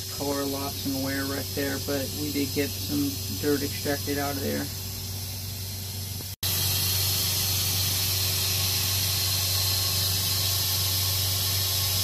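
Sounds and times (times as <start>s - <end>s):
carpet cleaning machine hissing: 0.0s - 12.0s.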